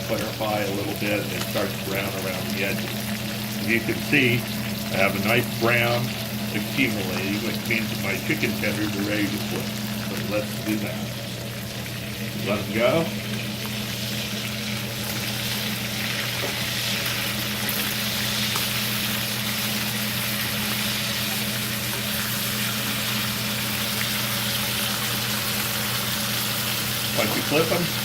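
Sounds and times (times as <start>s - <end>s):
chicken sizzling in a pan: 0.0s - 28.0s
steady low hum: 0.0s - 28.0s.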